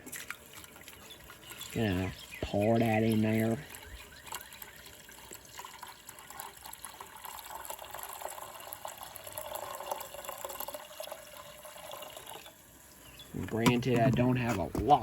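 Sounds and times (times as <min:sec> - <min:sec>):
liquid pouring into a can: 0:00.0 - 0:15.0.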